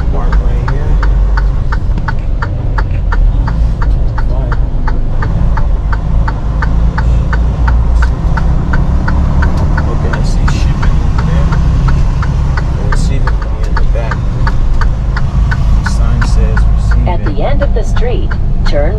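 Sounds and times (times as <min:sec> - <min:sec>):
diesel truck engine droning: 0:00.0 - 0:18.9.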